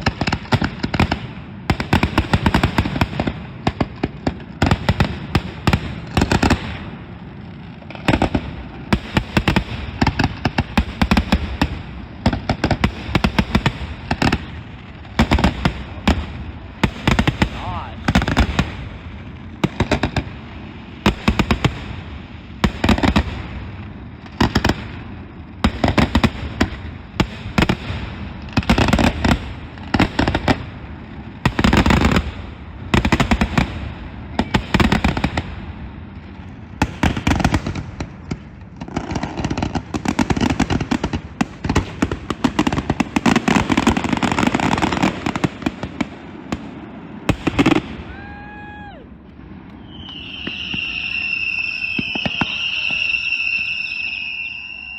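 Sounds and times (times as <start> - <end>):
fireworks bursting: 0.0 - 54.9
fireworks crackling: 0.0 - 54.9.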